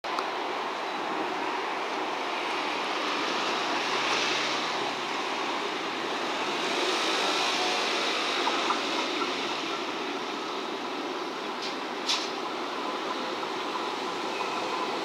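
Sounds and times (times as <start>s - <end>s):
train running on rails: 0.1s - 15.0s.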